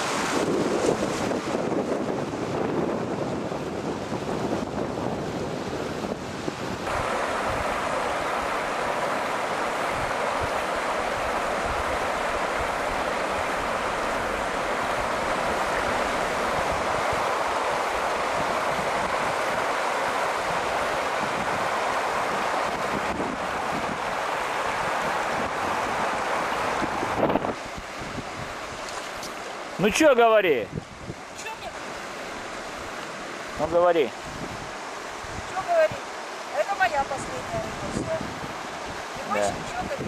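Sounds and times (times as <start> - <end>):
river water rushing over rapids: 0.0 - 40.0.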